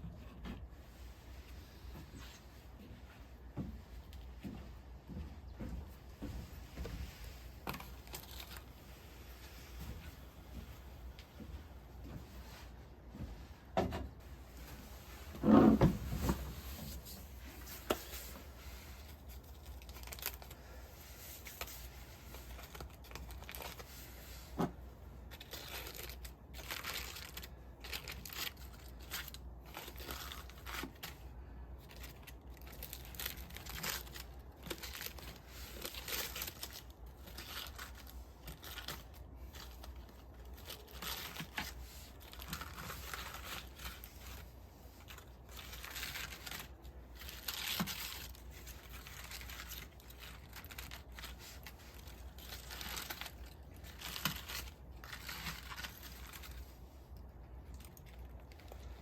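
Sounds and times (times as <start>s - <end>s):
rustling and crinkling handling: 0.0s - 59.0s.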